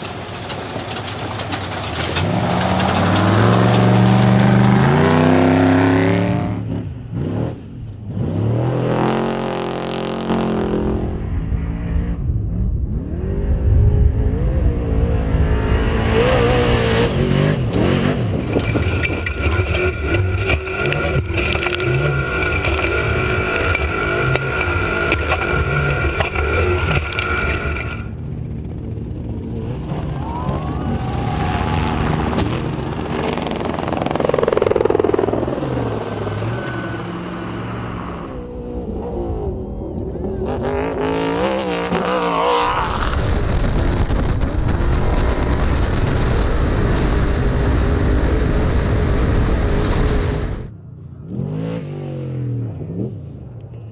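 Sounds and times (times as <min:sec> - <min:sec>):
race truck engines revving: 0:00.0 - 0:46.0.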